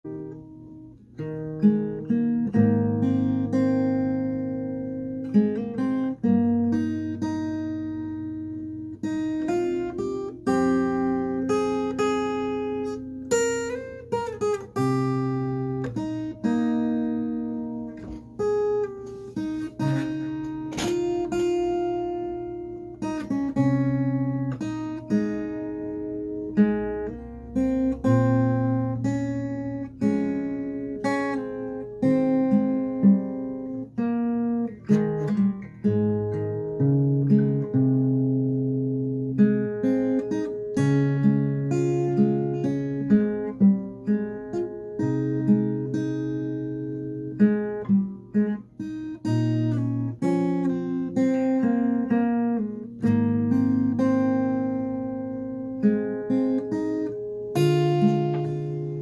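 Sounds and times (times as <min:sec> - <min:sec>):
fingerpicked acoustic guitar: 0:00.0 - 0:59.0.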